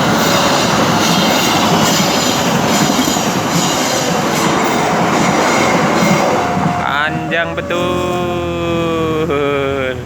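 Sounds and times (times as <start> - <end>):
train wheels clacking on rails: 0.0 - 10.0.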